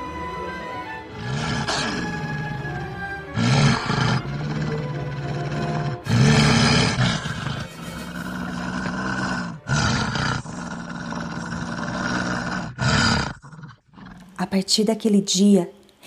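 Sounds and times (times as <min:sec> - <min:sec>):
deep beast roars: 0:01.1 - 0:14.3.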